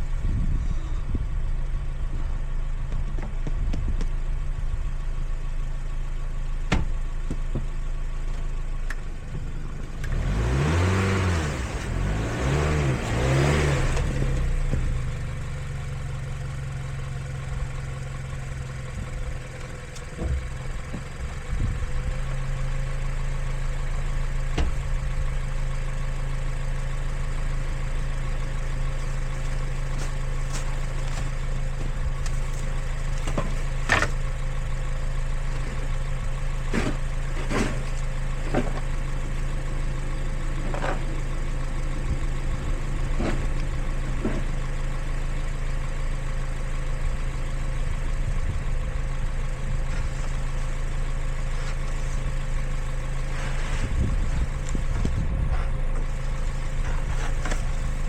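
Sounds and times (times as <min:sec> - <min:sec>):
car engine and cabin hum: 0:00.0 - 0:58.0.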